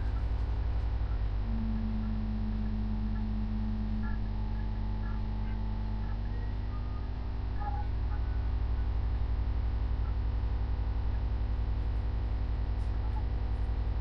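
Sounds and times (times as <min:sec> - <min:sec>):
low electrical mains hum: 0:00.0 - 0:14.0.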